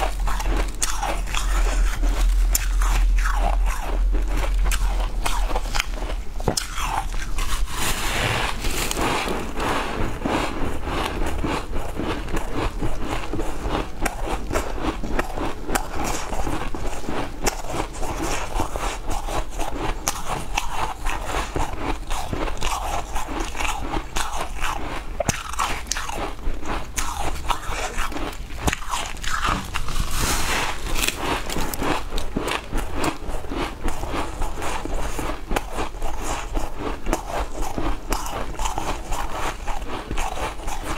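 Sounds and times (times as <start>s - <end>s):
ice crunching between teeth: 0.0s - 40.9s.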